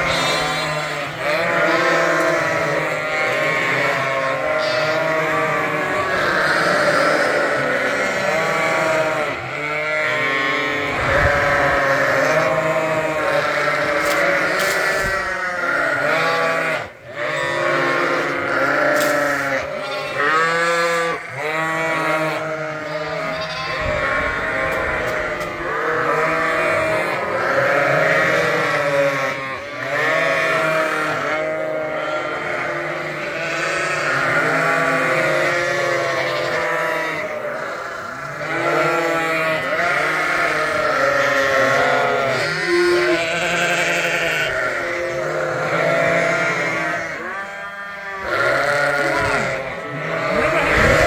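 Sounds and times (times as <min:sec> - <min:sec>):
sheep and lambs bleating: 0:00.0 - 0:51.0.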